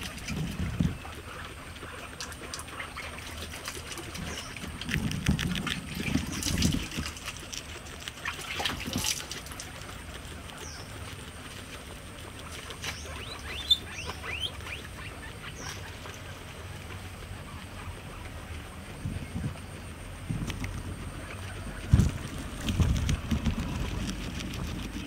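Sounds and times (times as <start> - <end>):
guinea pig chewing grass: 0.0 - 25.0.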